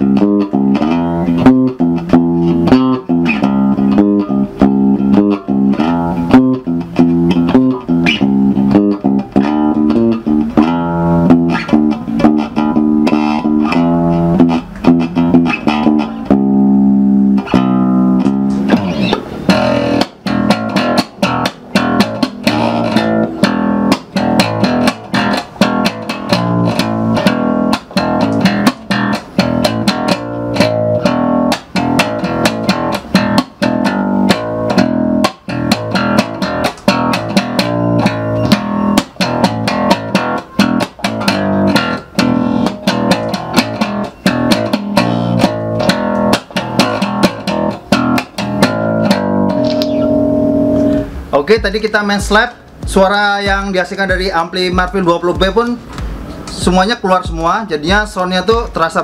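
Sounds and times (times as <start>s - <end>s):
slap bass guitar riff: 0.0s - 59.0s.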